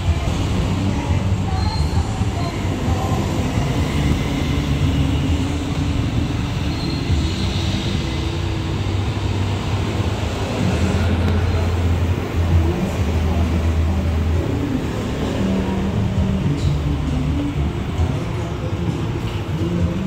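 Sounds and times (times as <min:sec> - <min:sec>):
noisy wash: 0:00.0 - 0:20.0.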